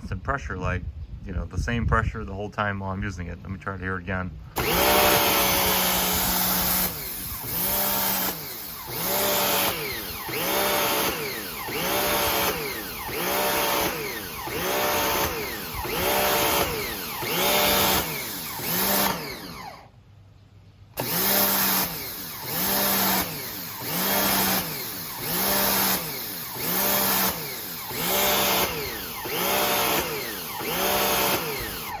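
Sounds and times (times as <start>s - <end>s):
pressure washer motor surging: 4.6s - 19.9s, 21.0s - 32.0s.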